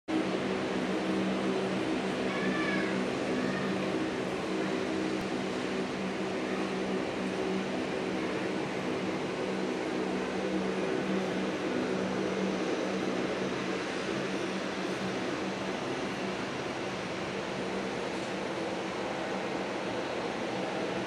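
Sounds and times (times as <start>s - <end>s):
jet engines running: 0.1s - 21.0s.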